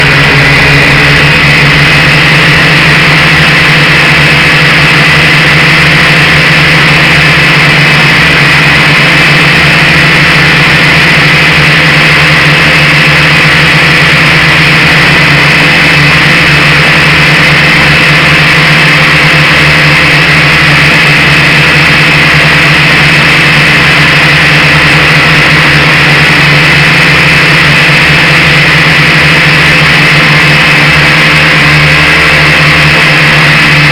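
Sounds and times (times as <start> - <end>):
drone motors humming and whining: 0.0 - 33.9.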